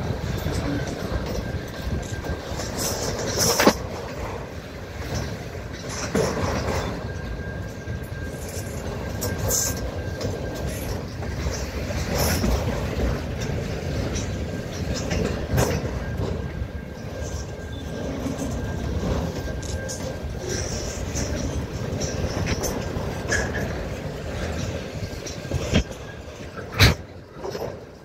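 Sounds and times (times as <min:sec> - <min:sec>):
train wheels rumbling on rails: 0:00.0 - 0:28.0
wheels clacking over rail joints: 0:00.0 - 0:28.0.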